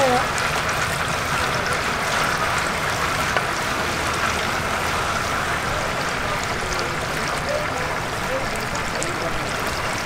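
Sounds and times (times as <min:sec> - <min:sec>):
oil sizzling in deep fryer: 0:00.0 - 0:10.0.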